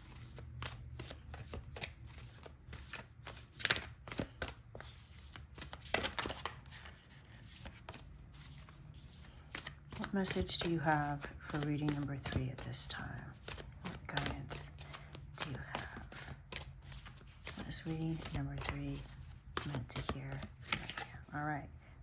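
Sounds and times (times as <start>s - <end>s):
cards being shuffled: 0.0s - 21.2s.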